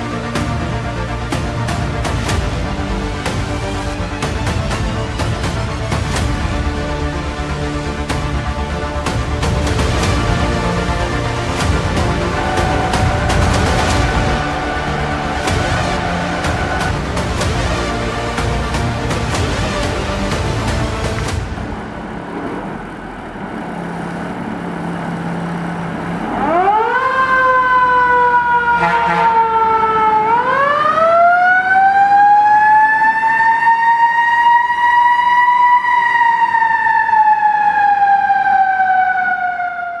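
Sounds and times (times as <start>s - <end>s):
fire engine siren wailing: 0.0s - 40.0s.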